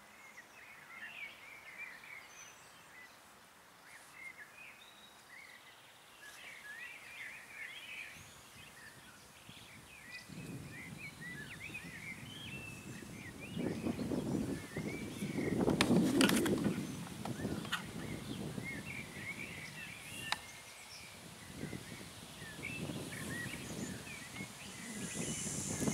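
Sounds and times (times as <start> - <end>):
songbirds chirping and warbling: 0.0 - 25.9.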